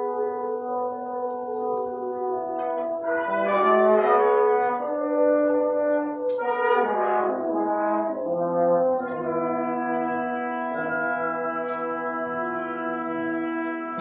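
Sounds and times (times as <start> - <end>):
brass accents: 0.0 - 14.0
orchestra playing held chords: 0.0 - 14.0.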